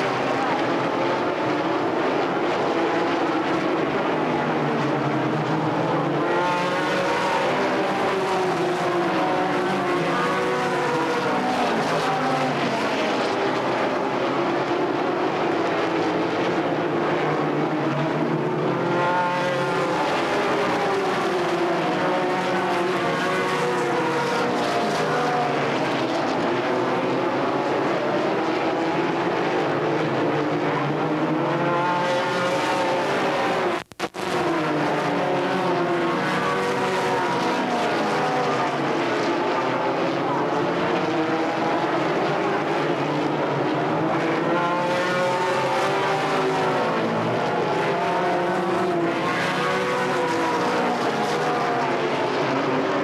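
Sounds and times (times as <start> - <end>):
race car engines passing: 0.0 - 53.0.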